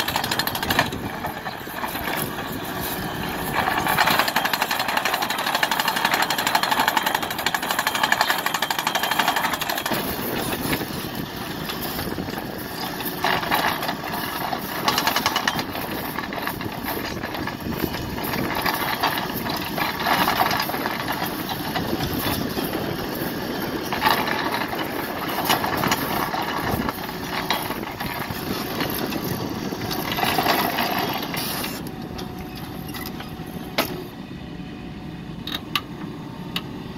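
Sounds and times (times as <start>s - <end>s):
hydraulic driver grinding pile into ground: 0.0s - 34.1s
excavator engine running: 0.0s - 36.9s.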